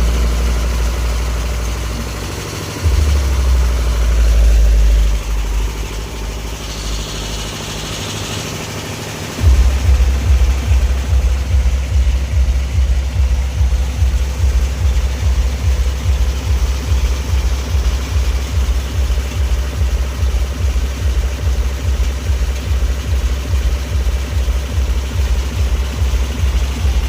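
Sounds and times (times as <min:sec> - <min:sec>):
pulsing deep bass: 0:00.0 - 0:27.0.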